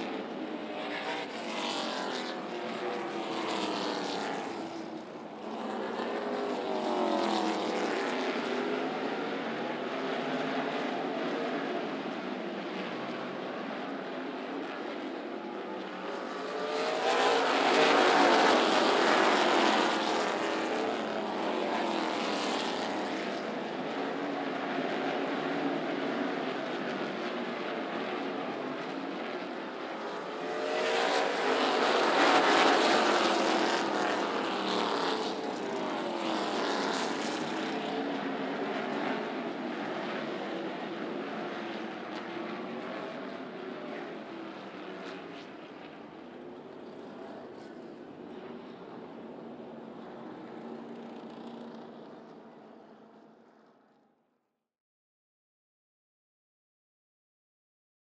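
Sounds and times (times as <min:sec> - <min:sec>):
race car engines passing: 0:00.0 - 0:53.1.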